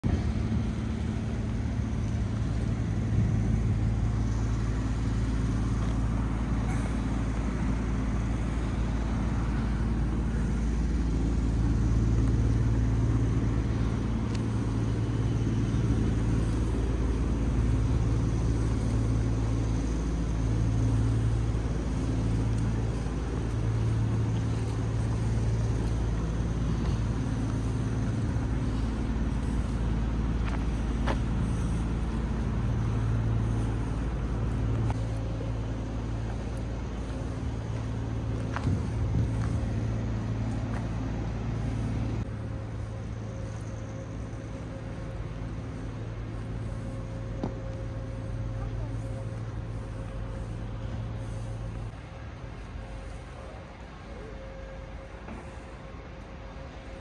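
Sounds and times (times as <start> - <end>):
low hum: 0.0 - 57.0
vehicle engine rumbling: 0.0 - 57.0.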